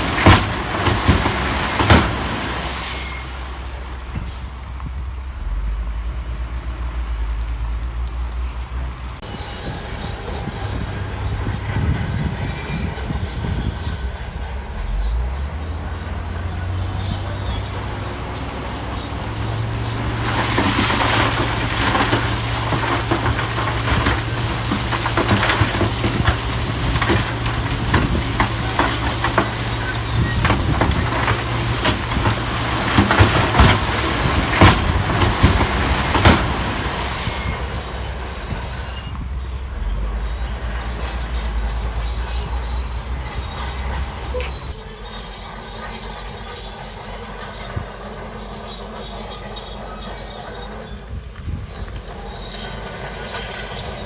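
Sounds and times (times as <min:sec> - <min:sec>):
steel tracks clanking on rock: 0:00.0 - 0:03.5, 0:09.2 - 0:54.0
diesel engine under load: 0:00.0 - 0:54.0.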